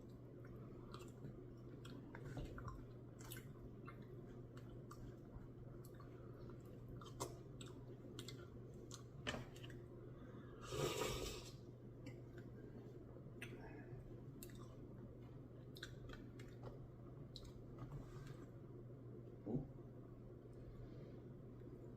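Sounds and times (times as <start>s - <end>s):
person chewing: 0.0s - 17.8s
steady low hum: 0.0s - 21.9s.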